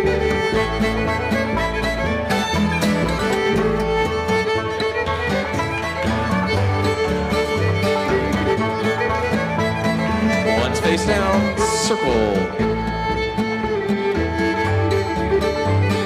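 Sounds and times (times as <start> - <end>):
fiddle melody: 0.0 - 16.0
guitar: 0.0 - 16.0
upright bass: 0.0 - 16.0.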